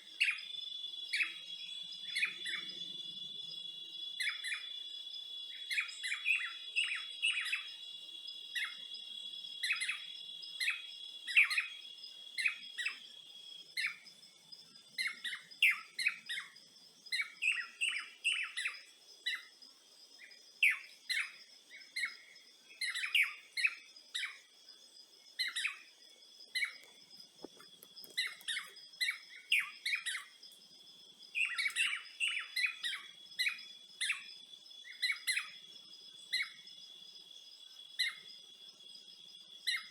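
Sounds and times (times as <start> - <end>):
birds chirping: 0.0 - 24.5, 25.3 - 30.5, 31.2 - 36.7
insects droning: 0.0 - 39.9.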